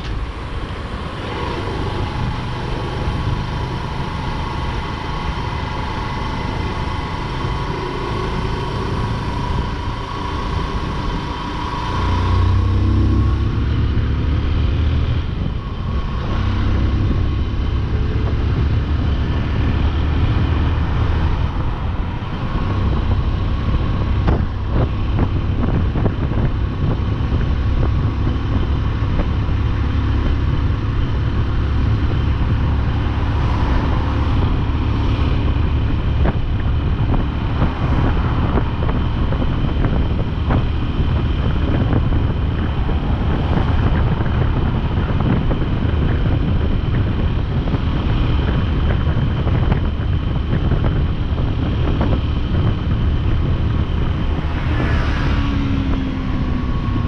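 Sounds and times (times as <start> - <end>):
motorcycle engine and road rumble: 0.0 - 57.0.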